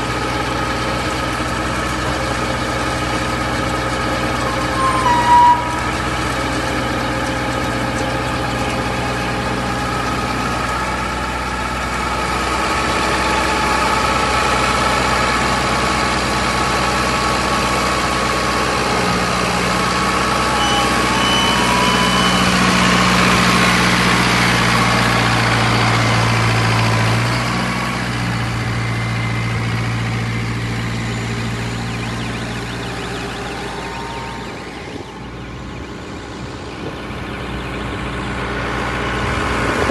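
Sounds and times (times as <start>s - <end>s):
baling machine humming: 0.0s - 12.4s, 17.4s - 39.9s.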